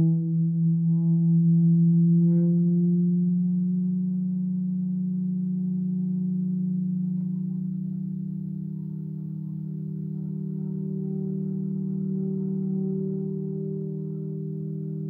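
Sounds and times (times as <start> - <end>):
low beating feedback drone: 0.0 - 15.0.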